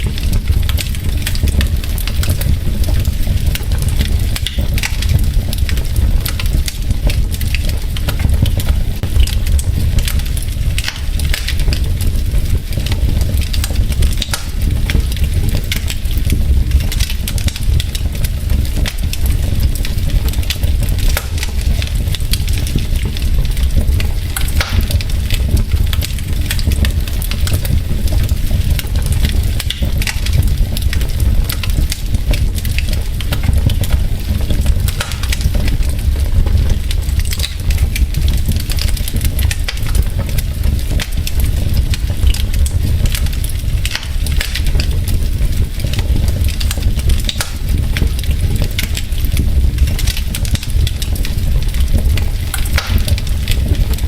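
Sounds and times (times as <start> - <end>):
logs crackling in fireplace: 0.0 - 54.0
low rumble of fire: 0.0 - 54.0
sharp pops of fire: 0.0 - 54.0.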